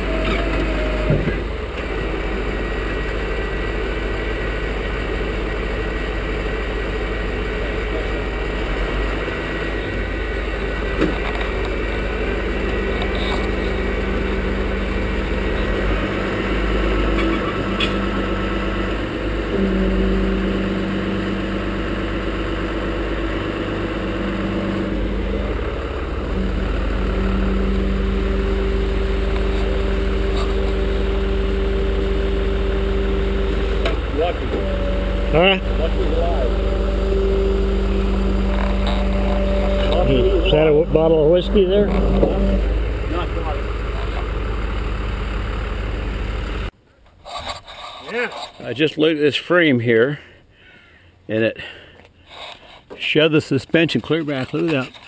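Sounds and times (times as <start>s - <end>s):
truck engine idling: 0.0s - 46.8s.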